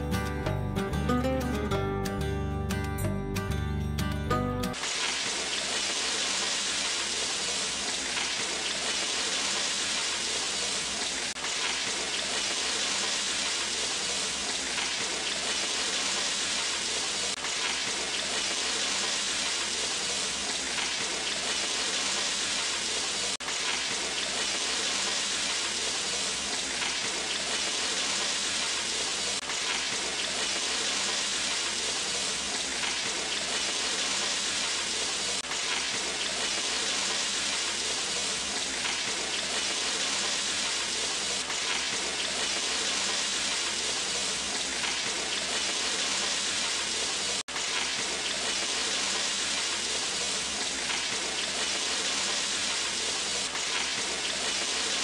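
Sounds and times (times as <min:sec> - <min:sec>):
chicken sizzling in hot oil: 0:04.7 - 0:55.0.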